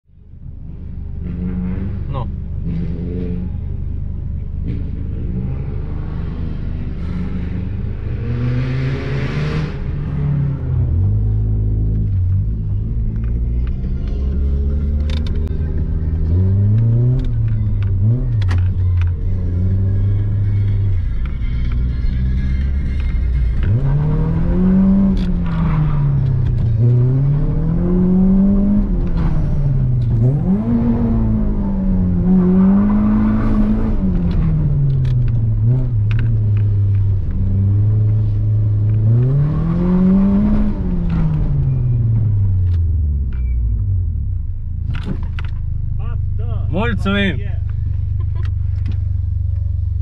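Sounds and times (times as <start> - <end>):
car engine idling and revving: 0.0 - 50.0.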